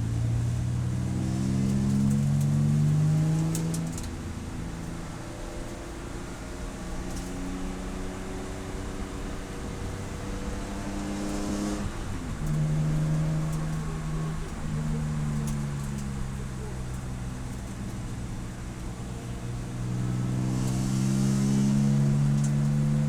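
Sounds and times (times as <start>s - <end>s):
race car engine running: 0.0s - 23.0s.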